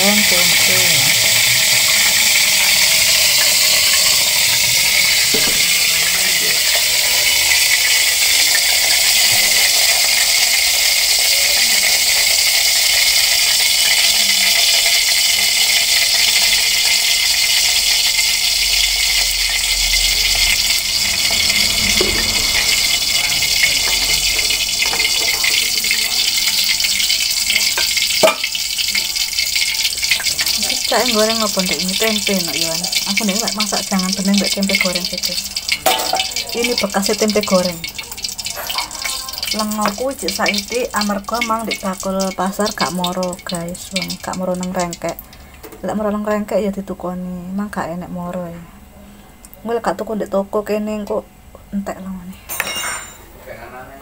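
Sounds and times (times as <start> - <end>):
gas stove hissing: 0.0 - 48.6.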